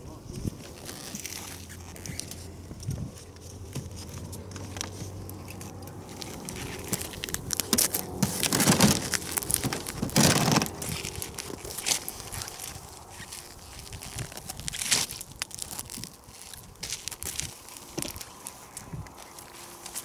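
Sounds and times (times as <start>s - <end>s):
boots shifting on crusty ice: 0.4s - 20.0s
small clicks and rustles: 0.5s - 20.0s
loud crunching of ice: 3.8s - 20.0s.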